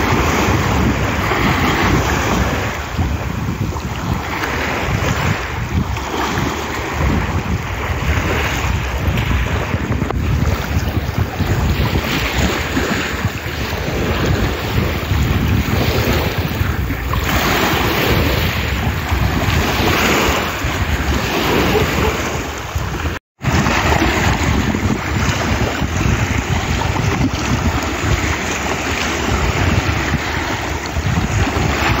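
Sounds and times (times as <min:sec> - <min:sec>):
waves washing over pebbles: 0:00.0 - 0:32.0
wind buffeting microphone: 0:00.0 - 0:32.0.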